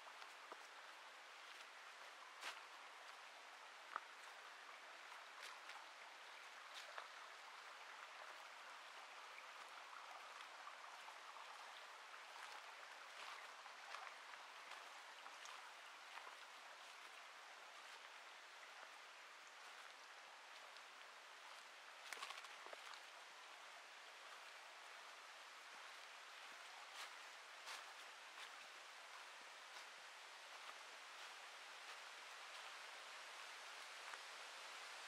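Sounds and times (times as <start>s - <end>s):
distant stream rushing: 0.0s - 35.0s.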